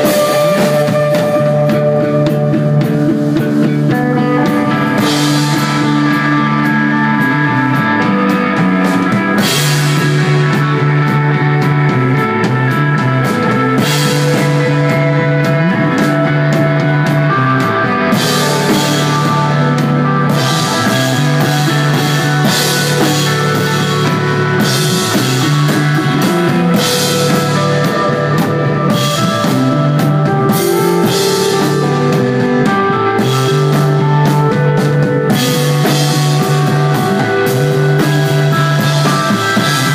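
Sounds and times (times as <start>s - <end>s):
steady bass line: 0.0s - 39.9s
sustained electric guitar notes: 0.0s - 39.9s.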